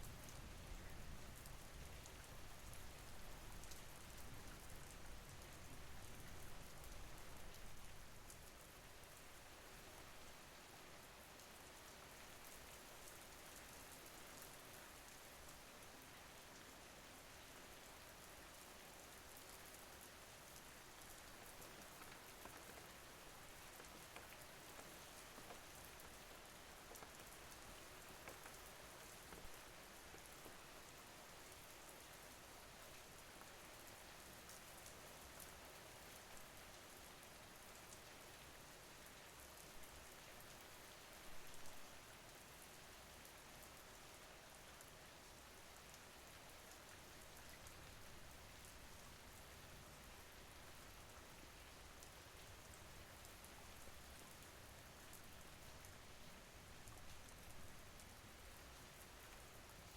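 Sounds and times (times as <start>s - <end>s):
faint rain: 0.0s - 59.9s.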